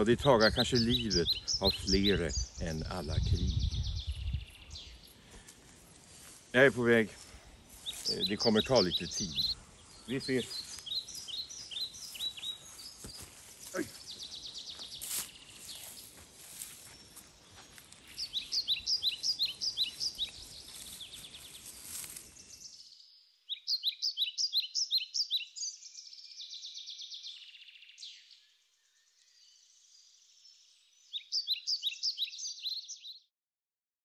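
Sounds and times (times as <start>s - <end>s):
outdoor background noise: 0.0s - 32.5s
songbird chirping: 0.0s - 33.3s.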